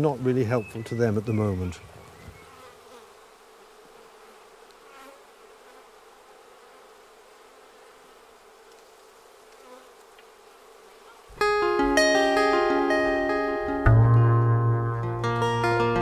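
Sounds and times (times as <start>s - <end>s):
honey bees buzzing: 0.0s - 14.1s.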